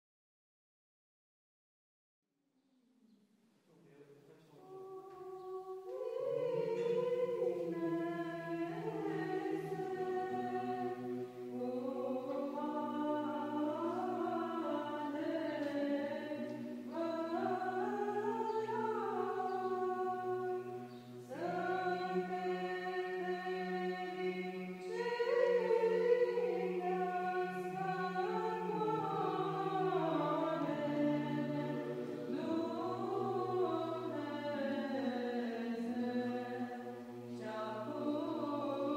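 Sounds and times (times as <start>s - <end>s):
choir singing unaccompanied chant: 4.6s - 38.9s.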